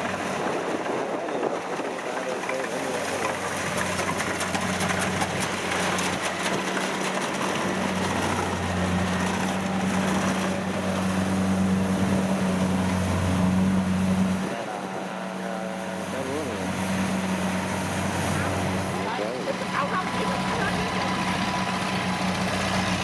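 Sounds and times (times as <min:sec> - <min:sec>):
combine harvester engine droning: 0:00.0 - 0:23.0.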